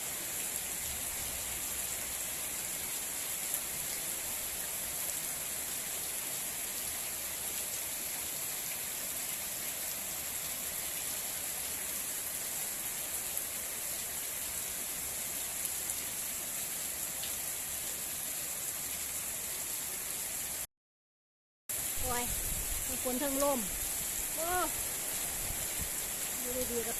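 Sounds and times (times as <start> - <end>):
heavy rain falling: 0.0 - 20.6, 21.7 - 26.9.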